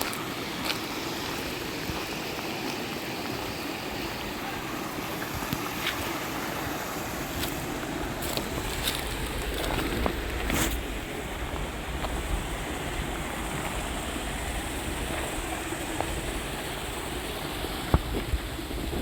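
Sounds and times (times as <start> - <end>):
mountain stream rushing: 0.0 - 19.0
wind rumbling on microphone: 0.0 - 19.0.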